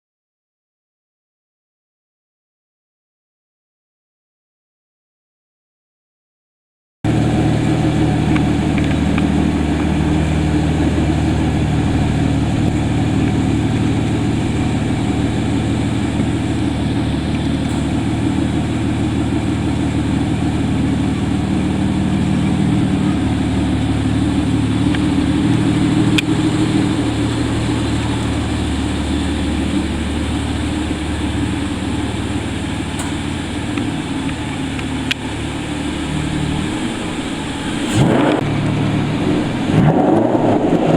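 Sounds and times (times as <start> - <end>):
car engine idling: 7.0 - 40.8.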